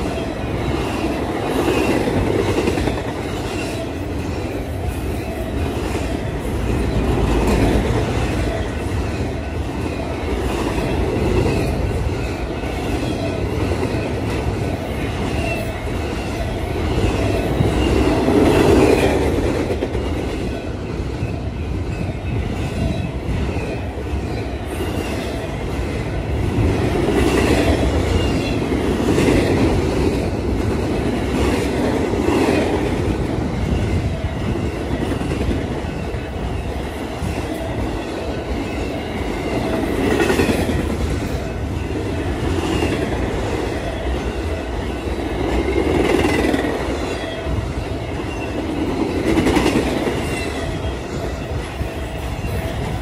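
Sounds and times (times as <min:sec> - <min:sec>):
wheels clattering on rails: 0:00.0 - 0:53.0.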